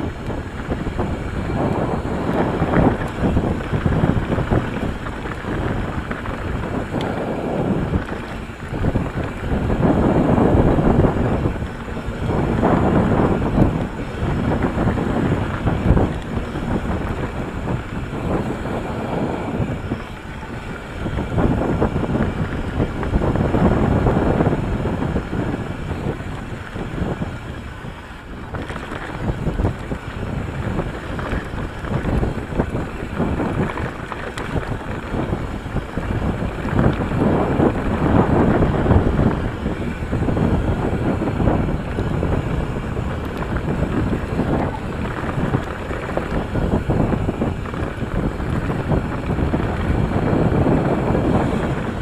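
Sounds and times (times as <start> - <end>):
bike knocking and rattling: 0.0 - 52.0
tyres rumbling on dirt: 0.0 - 52.0
wind on microphone: 0.0 - 52.0.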